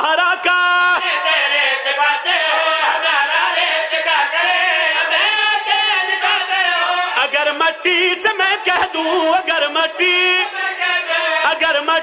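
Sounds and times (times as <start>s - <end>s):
men chanting devotional verse: 0.0s - 12.0s.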